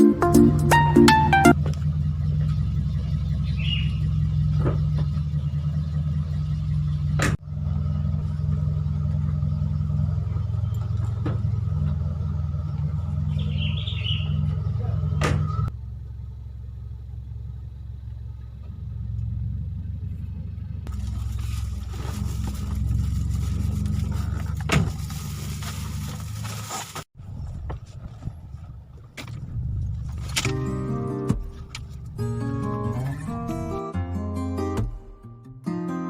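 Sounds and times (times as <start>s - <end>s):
vehicle engine and road rumble: 0.0s - 35.6s.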